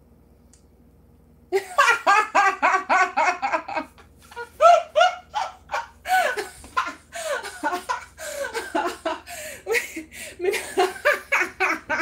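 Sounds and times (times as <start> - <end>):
woman laughing hard: 1.6 - 12.0.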